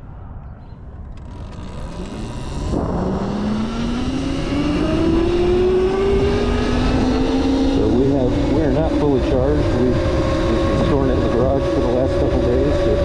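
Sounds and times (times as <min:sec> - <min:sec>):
wind noise rumble: 0:00.0 - 0:13.0
electric bike motor whining: 0:01.1 - 0:13.0.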